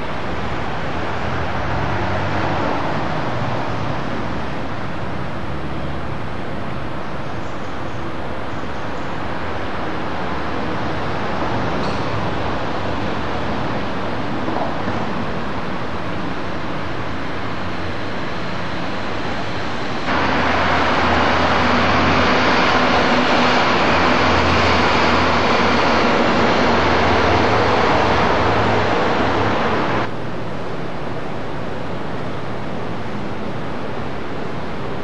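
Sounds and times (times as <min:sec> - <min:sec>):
low engine hum: 0:00.0 - 0:35.0
traffic hiss: 0:00.0 - 0:35.0.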